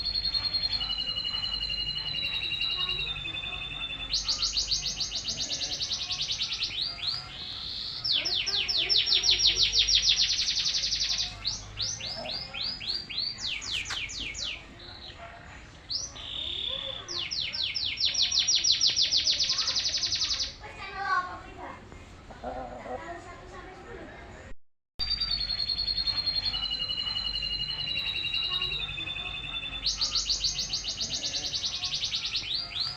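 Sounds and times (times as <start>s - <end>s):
songbird singing rapid trills: 0.0s - 20.6s, 25.0s - 32.9s.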